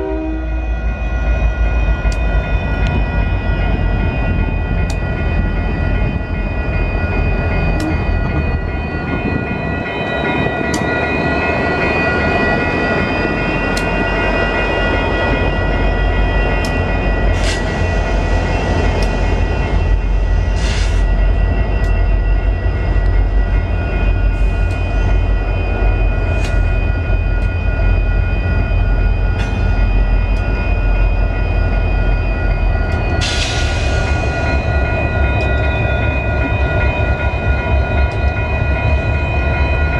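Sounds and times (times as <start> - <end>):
high ringing tones: 0.0 - 39.9.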